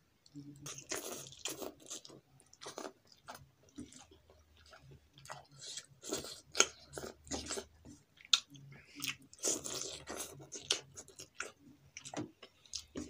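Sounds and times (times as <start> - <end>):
person slurping and chewing noodles: 0.5 - 13.0.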